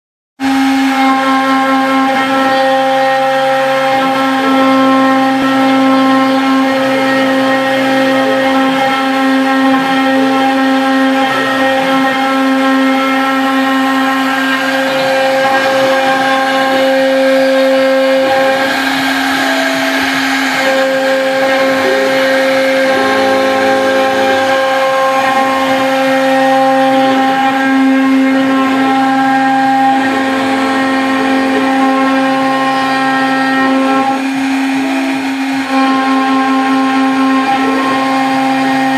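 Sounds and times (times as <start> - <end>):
cnc router spindle whine: 0.4 - 38.9
motor tones shifting in pitch: 0.4 - 38.9.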